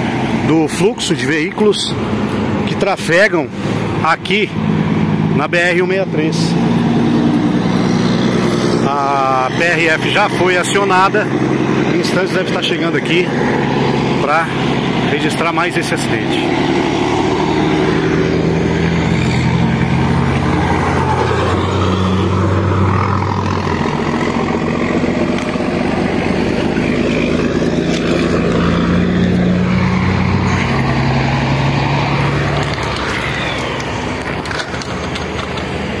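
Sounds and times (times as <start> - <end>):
heavy truck engines running: 0.0 - 36.0
highway traffic hum: 0.0 - 36.0.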